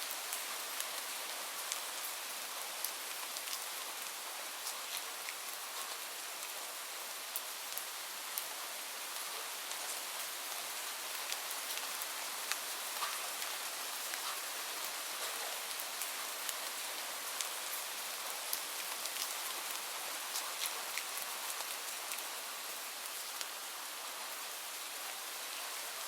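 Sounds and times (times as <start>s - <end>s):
light rain falling: 0.0s - 26.0s.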